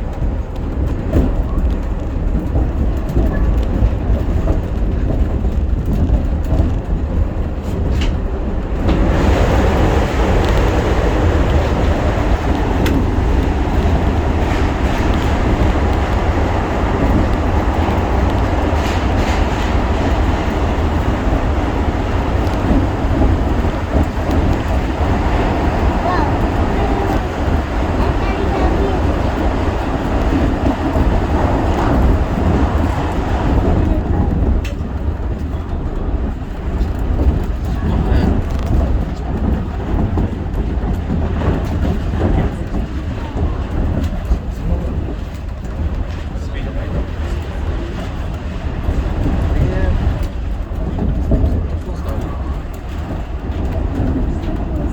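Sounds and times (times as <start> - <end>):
monorail train rumbling: 0.0 - 54.9.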